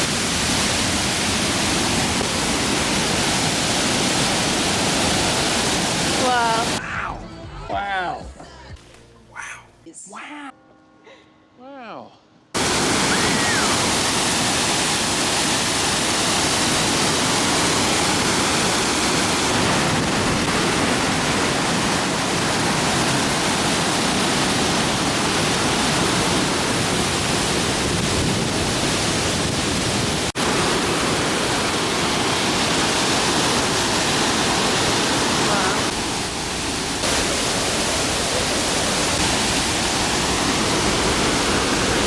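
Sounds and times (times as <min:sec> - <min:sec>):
waterfall rushing: 0:00.0 - 0:07.0, 0:12.6 - 0:42.0.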